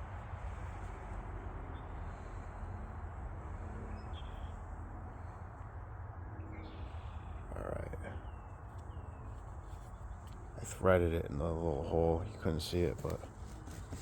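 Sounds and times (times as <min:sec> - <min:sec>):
low outdoor background rumble: 0:00.0 - 0:14.0.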